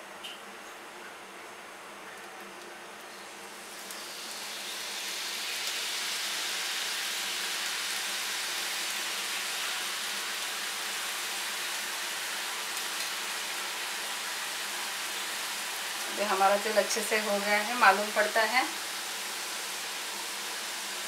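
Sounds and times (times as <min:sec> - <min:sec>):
dough frying in hot oil: 0:00.2 - 0:21.0.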